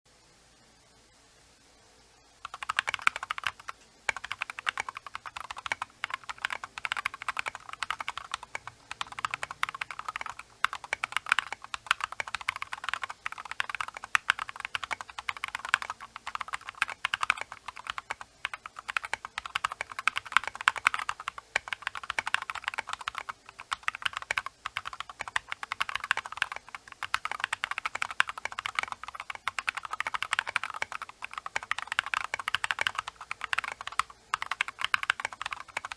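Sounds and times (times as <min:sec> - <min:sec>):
faint microphone hiss: 0:00.1 - 0:35.9
mechanical keyboard typing: 0:02.4 - 0:35.9.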